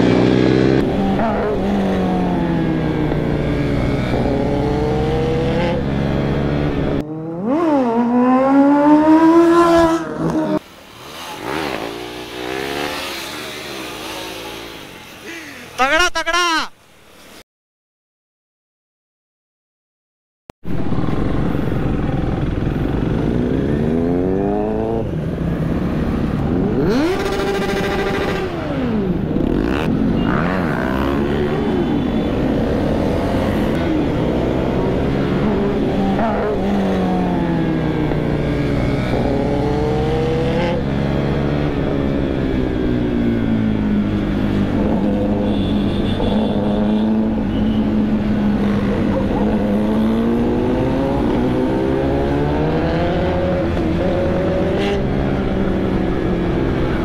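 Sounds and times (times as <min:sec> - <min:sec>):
motorcycle engine revving: 0:00.0 - 0:15.1, 0:20.7 - 0:57.0.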